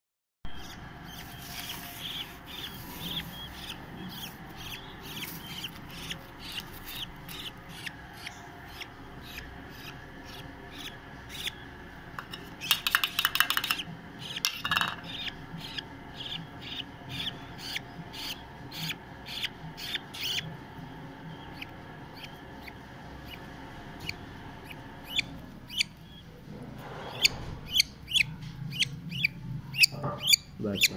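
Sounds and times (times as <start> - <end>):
budgerigar chick begging calls: 0.5 - 11.6, 13.4 - 20.5, 21.4 - 26.2, 27.2 - 30.9.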